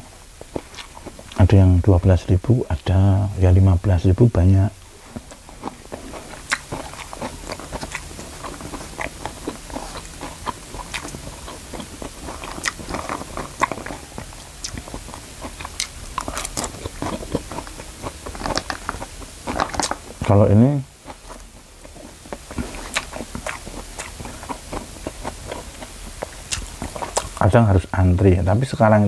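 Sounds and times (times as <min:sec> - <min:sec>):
man chewing with mouth clicks: 0:00.0 - 0:01.4, 0:04.8 - 0:27.5.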